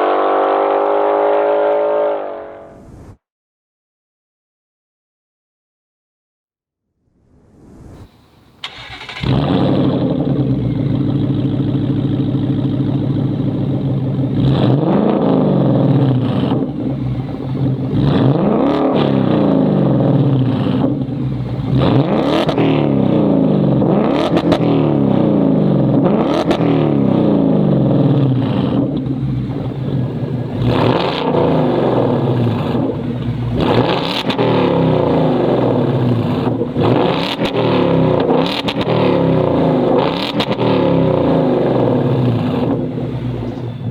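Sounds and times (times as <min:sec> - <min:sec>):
car engine starting and revving: 0:07.5 - 0:43.9.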